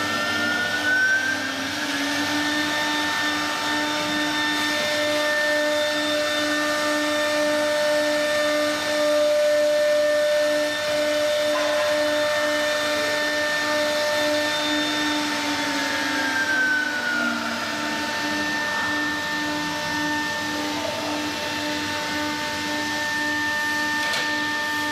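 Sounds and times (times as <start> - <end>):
router spindles whining: 0.0 - 24.9.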